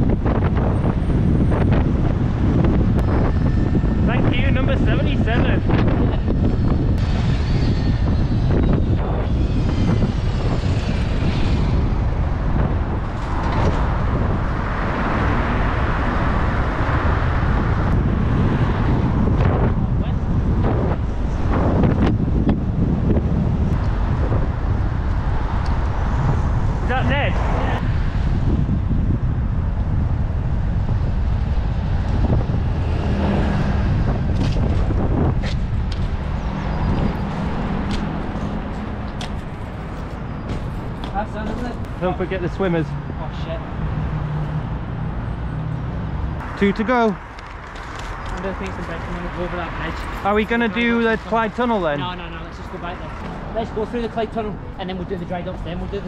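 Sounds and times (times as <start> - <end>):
city traffic rumble: 0.0 - 56.0
road noise: 0.0 - 56.0
wind on microphone: 0.0 - 56.0.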